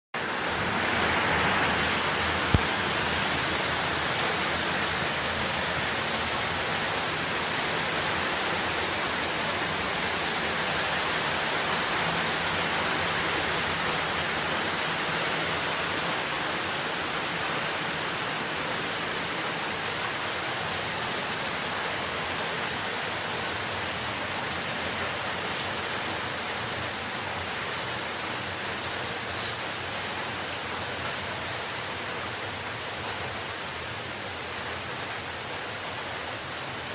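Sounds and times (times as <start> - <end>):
steady rainfall: 0.2 - 36.9.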